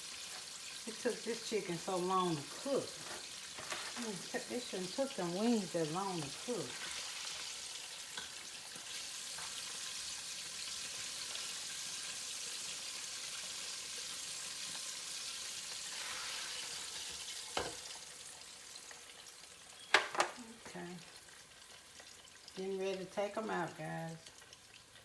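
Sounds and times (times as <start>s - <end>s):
wings deep-frying in hot oil: 0.0s - 25.0s.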